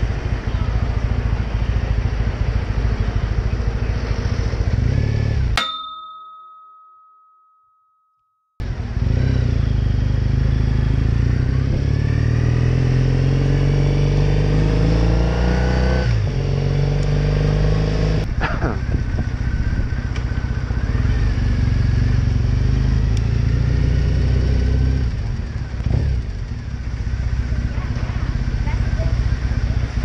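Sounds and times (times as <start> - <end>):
motorcycle engine accelerating: 0.0 - 5.6, 8.6 - 30.0.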